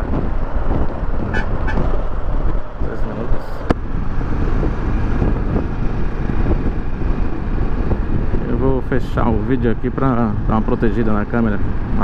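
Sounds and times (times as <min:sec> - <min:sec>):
motorcycle engine riding: 0:00.0 - 0:12.0
wind rumble on microphone: 0:00.0 - 0:12.0.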